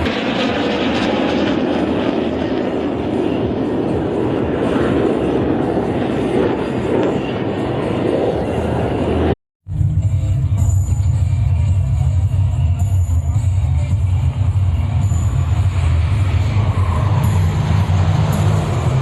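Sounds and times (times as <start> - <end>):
aircraft engine rushing: 0.0 - 19.0.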